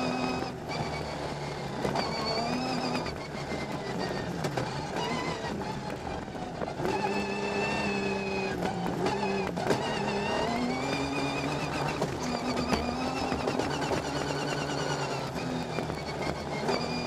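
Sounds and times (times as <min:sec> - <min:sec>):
rally car engine changing gears: 0:00.0 - 0:17.0.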